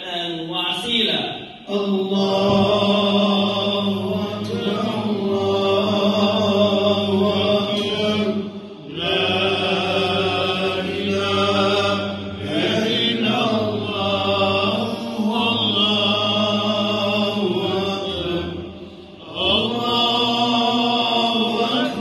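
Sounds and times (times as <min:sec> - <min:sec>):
man chanting over loudspeakers: 0:00.0 - 0:22.0.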